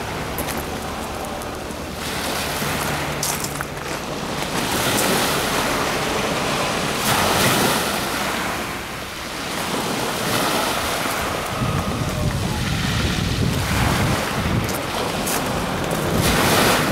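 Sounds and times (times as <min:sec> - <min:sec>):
small waves washing in: 0:00.0 - 0:16.9
wind buffeting microphone: 0:00.0 - 0:16.9.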